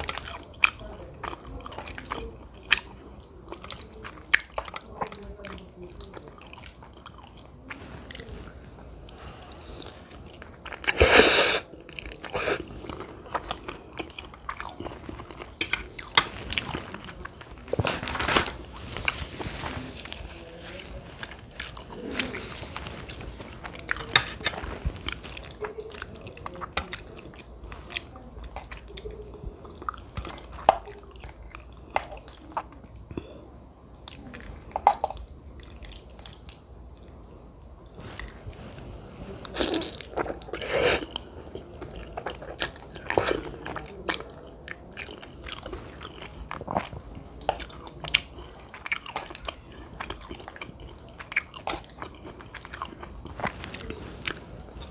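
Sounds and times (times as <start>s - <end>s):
wet chewing and eating: 0.0s - 33.4s, 34.0s - 54.9s.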